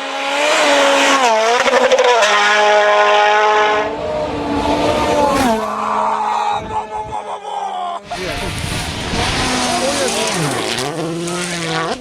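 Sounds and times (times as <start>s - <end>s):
car engine revving high: 0.0s - 7.0s, 8.0s - 12.0s.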